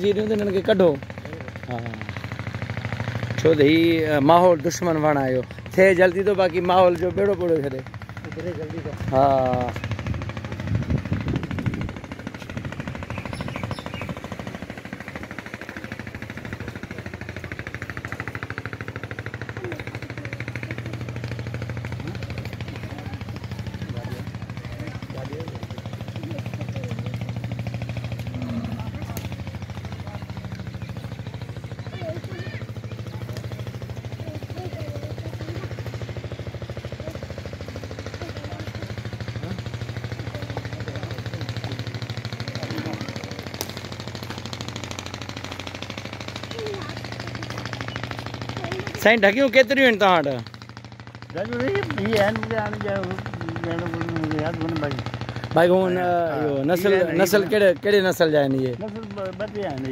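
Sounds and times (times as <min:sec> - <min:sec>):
engine chugging: 0:00.0 - 0:59.9.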